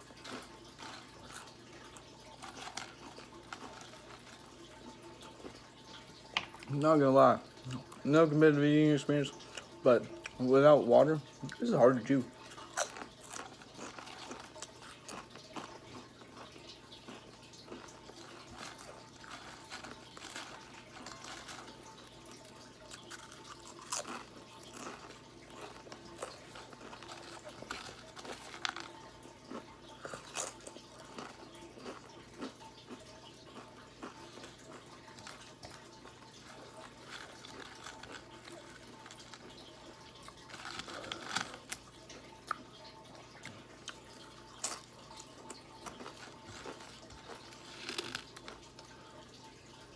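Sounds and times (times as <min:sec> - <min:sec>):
chewing crunchy chips: 0:00.0 - 0:49.9.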